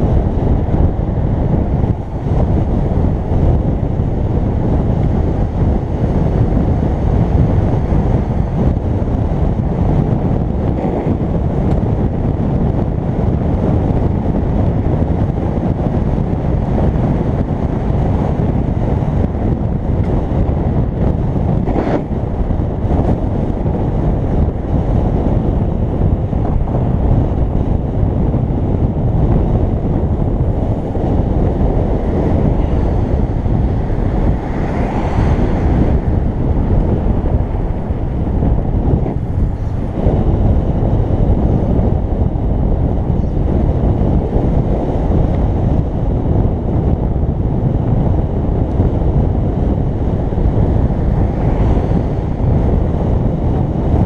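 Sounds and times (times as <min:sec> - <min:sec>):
vehicle and road rumble: 0:00.0 - 0:54.0
wind buffeting microphone: 0:00.0 - 0:54.0.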